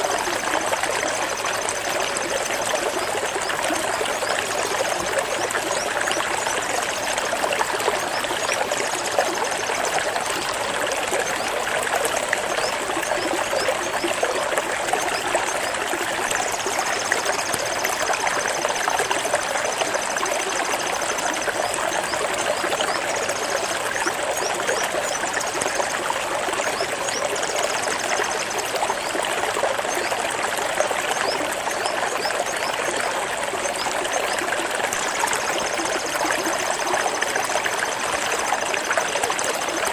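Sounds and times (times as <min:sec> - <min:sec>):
stream splashing over rocks: 0:00.0 - 0:39.9.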